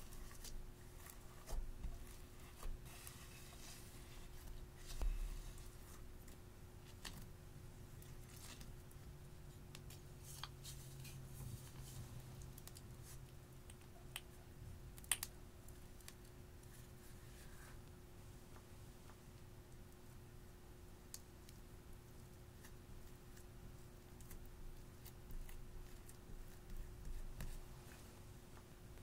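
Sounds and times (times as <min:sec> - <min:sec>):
low steady hum: 0:00.0 - 0:29.0
soft sticky slime sounds: 0:00.0 - 0:29.0.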